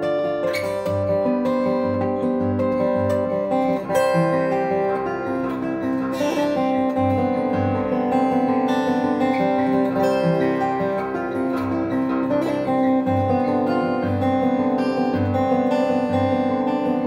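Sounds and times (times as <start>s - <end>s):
acoustic guitar solo: 0.0s - 17.0s.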